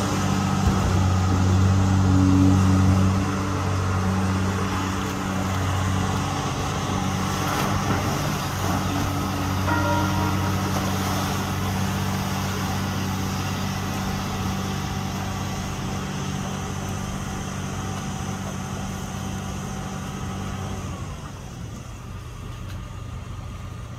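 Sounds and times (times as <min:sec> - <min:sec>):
diesel engine humming: 0:00.0 - 0:23.9.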